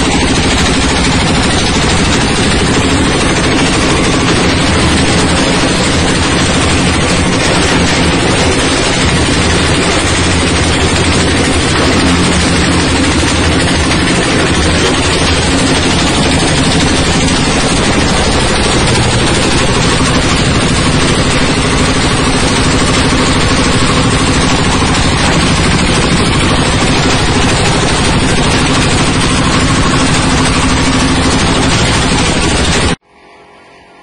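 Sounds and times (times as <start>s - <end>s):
husk shredding machine din: 0.0s - 34.0s
steady machine hum: 0.0s - 34.0s.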